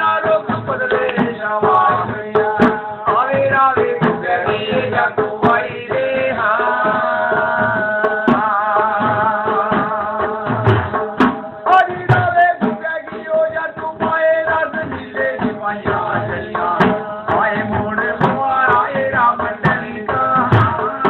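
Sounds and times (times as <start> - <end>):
hand drums beating: 0.0 - 21.0
man singing folk song: 0.0 - 21.0.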